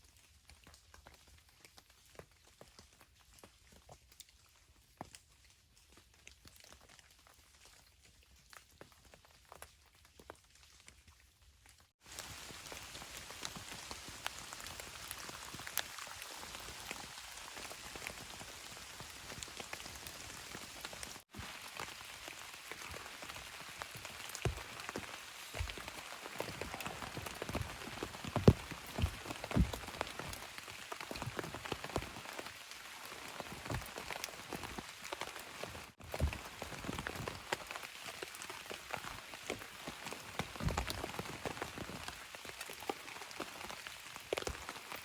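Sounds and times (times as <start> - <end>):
rain falling: 0.0 - 45.0
raindrops pattering on a tarp: 0.0 - 45.0.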